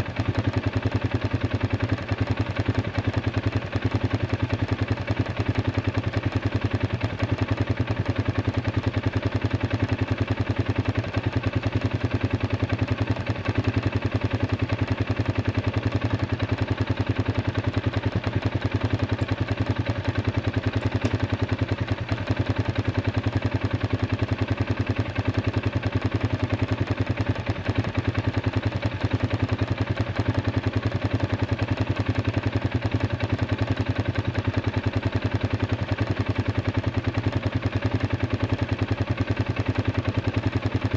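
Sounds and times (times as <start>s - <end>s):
atv engine idling: 0.0s - 40.9s.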